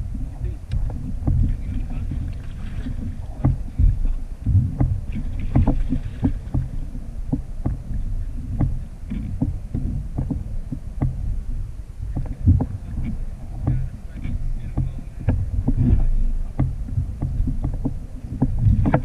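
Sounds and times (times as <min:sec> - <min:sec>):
water knocking against kayak hull: 0:00.0 - 0:19.0
wind rumble on microphone: 0:00.0 - 0:19.0.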